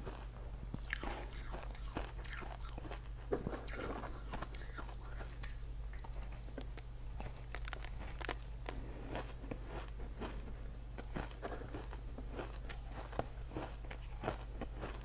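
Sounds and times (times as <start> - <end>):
crunching and chewing ice: 0.0 - 5.6, 6.2 - 15.0
steady low hum: 0.0 - 15.0.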